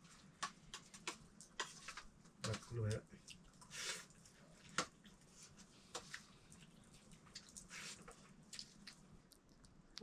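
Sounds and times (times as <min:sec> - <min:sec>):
eating by hand wet squishes: 0:00.0 - 0:10.0.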